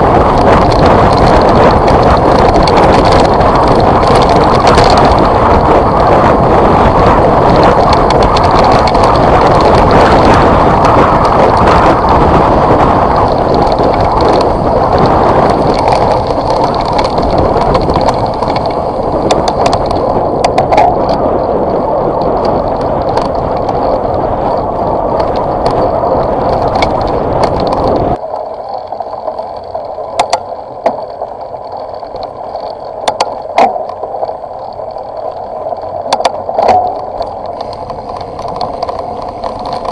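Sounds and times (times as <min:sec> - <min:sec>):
gravel clicks and rattles: 0:00.0 - 0:39.9
vehicle rolling on gravel road: 0:00.0 - 0:39.9.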